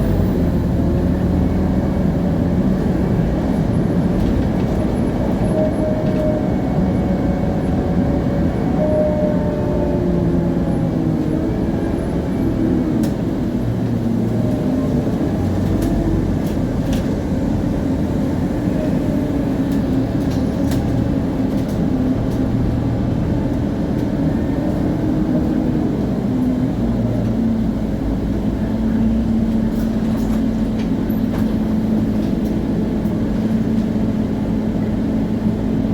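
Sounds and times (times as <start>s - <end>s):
bus diesel engine running: 0.0s - 35.9s
rear axle differential whine: 0.0s - 35.9s.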